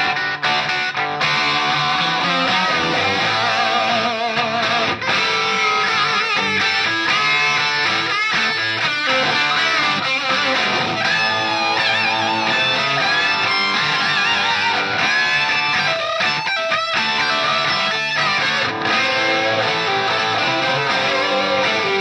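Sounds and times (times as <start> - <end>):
overdriven electric guitar solo: 0.0 - 22.0
rhythm guitar: 0.0 - 22.0.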